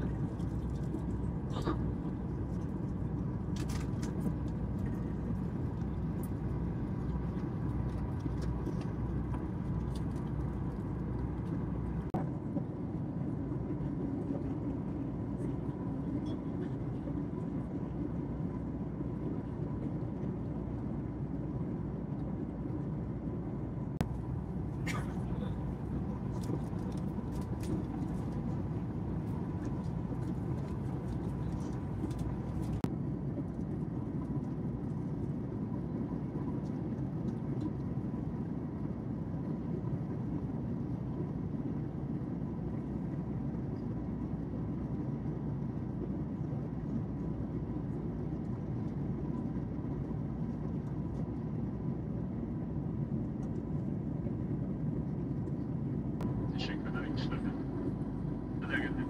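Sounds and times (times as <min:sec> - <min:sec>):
aircraft engine drone: 0:00.0 - 0:59.0
faint steady hum: 0:00.0 - 0:59.0.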